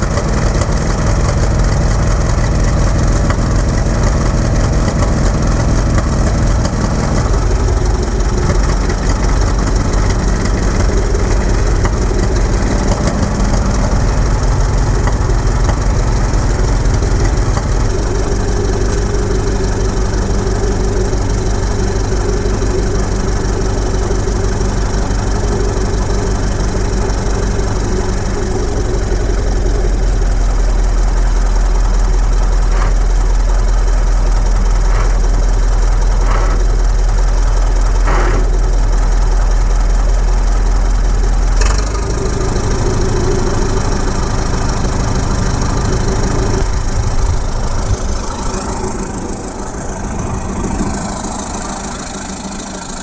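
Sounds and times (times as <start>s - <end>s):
bulldozer engine running: 0.0s - 53.0s.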